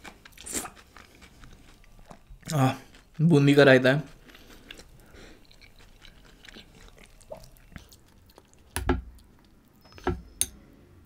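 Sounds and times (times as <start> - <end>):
soft chewing: 0.0 - 9.9.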